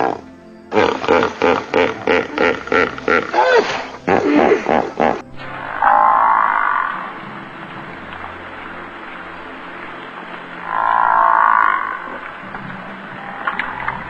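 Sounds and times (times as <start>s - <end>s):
frog croaking: 0.0s - 8.9s, 9.8s - 14.0s
steady background hiss: 0.0s - 14.0s.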